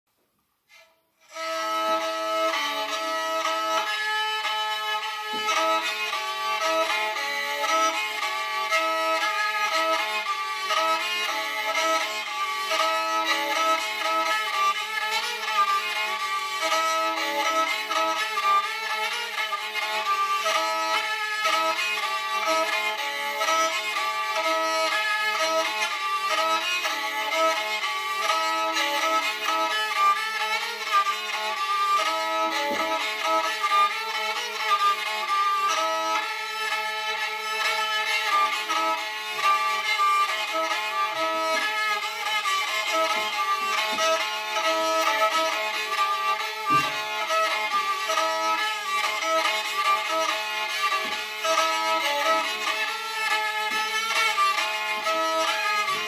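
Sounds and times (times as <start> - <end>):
bowed fiddle folk melody: 0.7 - 56.0.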